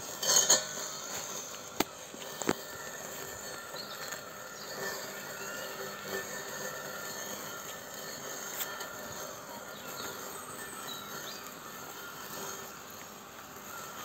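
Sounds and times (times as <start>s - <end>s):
outdoor air hiss: 0.0s - 14.0s
robotic lawnmower whirring: 0.0s - 14.0s.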